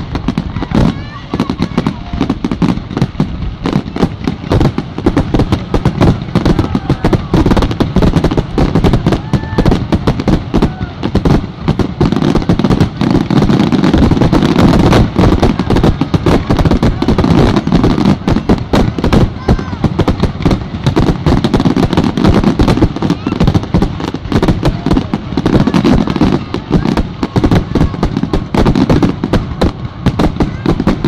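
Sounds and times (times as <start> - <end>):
fireworks bursting: 0.0 - 31.0.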